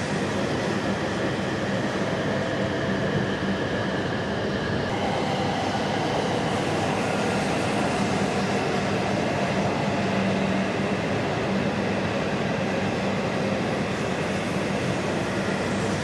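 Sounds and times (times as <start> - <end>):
continuous hum: 0.0 - 16.0
train rolling past: 0.0 - 16.0.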